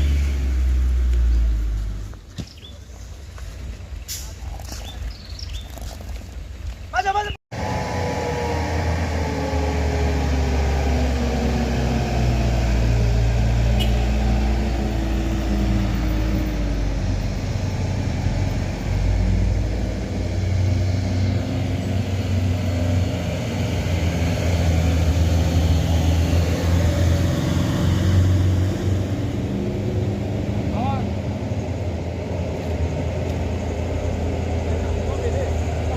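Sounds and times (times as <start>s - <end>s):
truck diesel engine under load: 0.0s - 2.3s, 7.5s - 35.9s.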